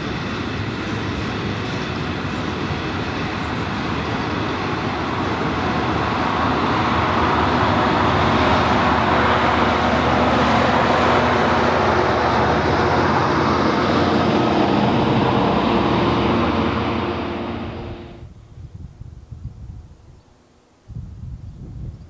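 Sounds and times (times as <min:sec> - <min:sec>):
locomotive engine drone: 0:00.0 - 0:18.3.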